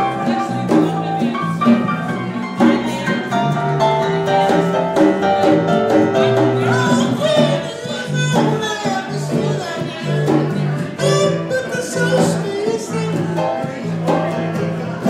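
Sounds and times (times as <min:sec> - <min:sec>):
conga drums: 0:00.0 - 0:15.0
live latin band playing: 0:00.0 - 0:15.0.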